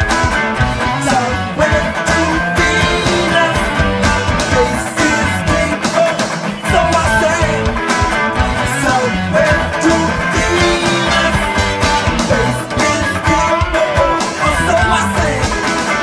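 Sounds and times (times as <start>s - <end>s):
electric guitar: 0.0s - 16.0s
funk rock song: 0.0s - 16.0s.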